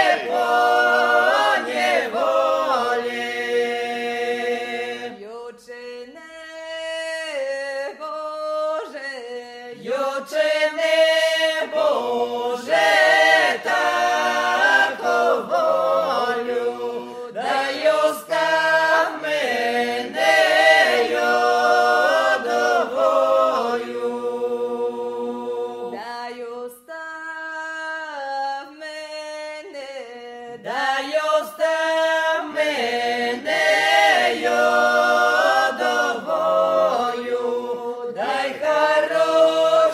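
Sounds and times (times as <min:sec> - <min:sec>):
group singing in harmony: 0:00.0 - 0:39.9.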